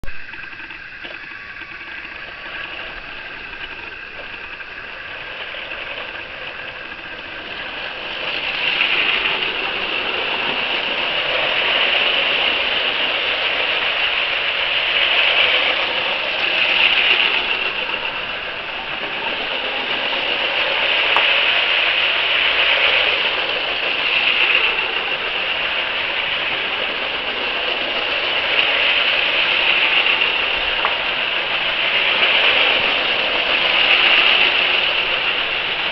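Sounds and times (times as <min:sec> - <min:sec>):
toy train motors whirring: 0:00.0 - 0:35.9
toy train wheels rattling: 0:00.0 - 0:35.9.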